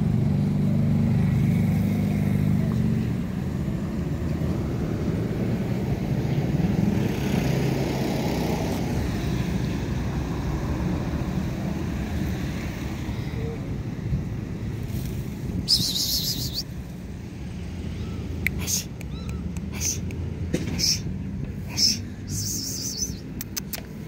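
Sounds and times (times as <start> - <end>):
low traffic rumble: 0.0 - 24.0
vehicle engine running close by: 0.0 - 24.0.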